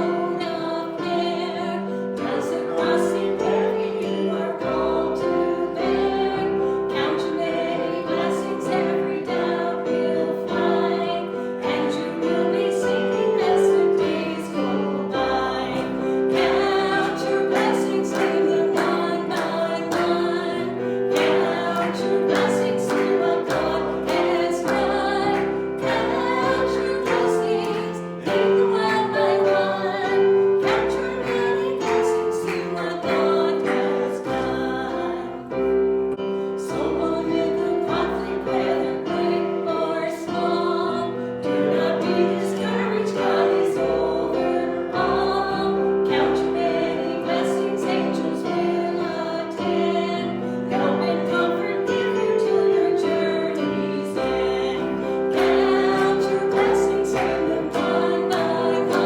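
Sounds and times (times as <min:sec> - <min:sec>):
congregation singing a hymn: 0:00.0 - 0:59.0
piano accompaniment: 0:00.0 - 0:59.0.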